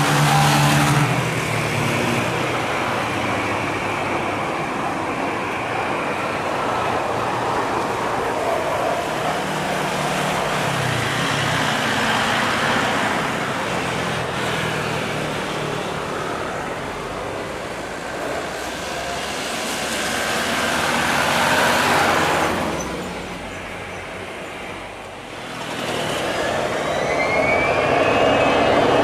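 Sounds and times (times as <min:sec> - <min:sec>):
jet airliner landing roar: 0:00.0 - 0:29.0.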